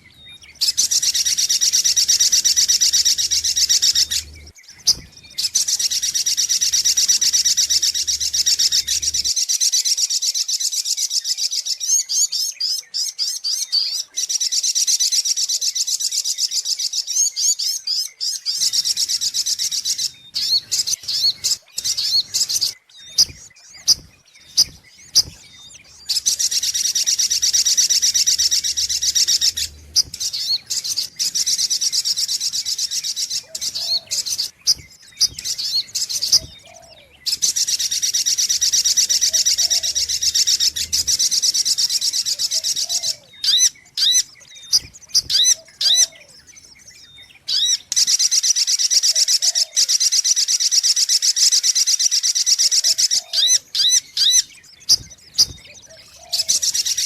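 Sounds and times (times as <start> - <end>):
bird chattering trills: 0.0 - 9.3, 18.5 - 50.5, 51.4 - 57.0.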